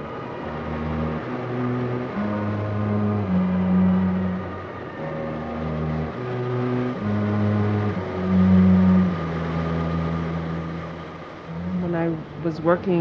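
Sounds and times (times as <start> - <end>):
music of low held notes: 0.0 - 13.0.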